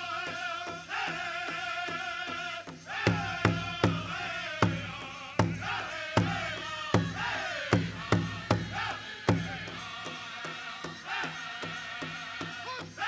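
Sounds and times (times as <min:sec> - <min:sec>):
high-pitched chanted singing: 0:00.0 - 0:13.0
large drum steady beat: 0:00.0 - 0:13.0.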